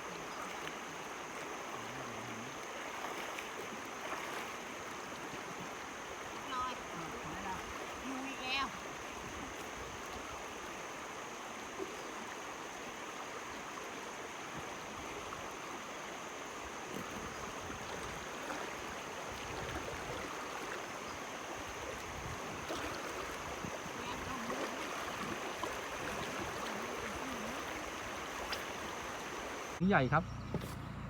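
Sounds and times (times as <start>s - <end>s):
stream rushing over rapids: 0.0s - 29.8s.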